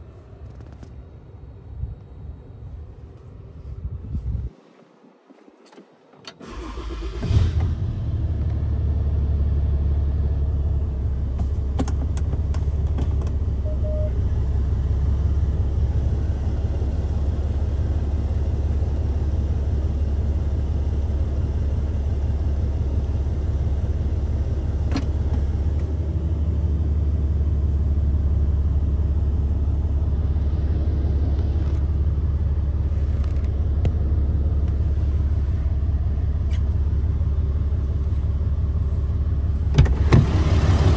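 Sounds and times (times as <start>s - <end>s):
diesel engine starting and idling: 6.3s - 40.9s.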